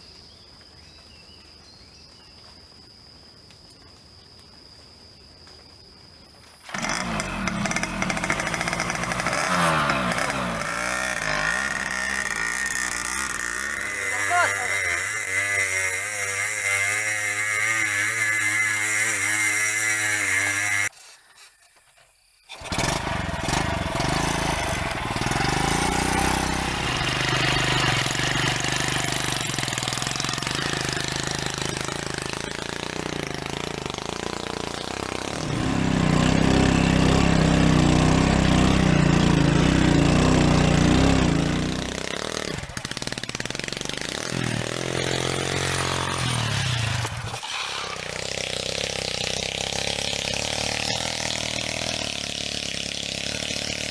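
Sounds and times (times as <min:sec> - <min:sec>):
small engine running: 0:06.6 - 0:21.5, 0:22.5 - 0:53.9.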